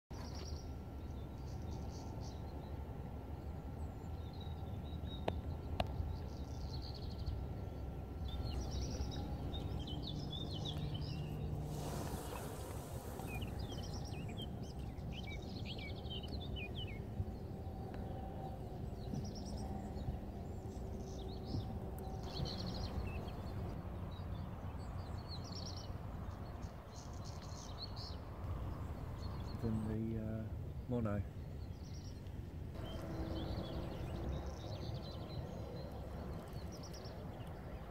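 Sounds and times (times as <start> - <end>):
small birds chirping: 0.1 - 37.9
wind rumble: 0.3 - 37.9.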